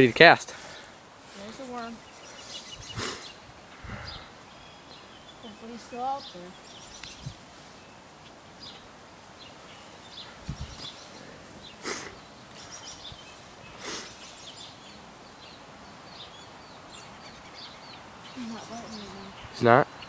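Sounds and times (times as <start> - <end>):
birds chirping: 0.0 - 20.0
steady outdoor hiss: 0.0 - 20.0.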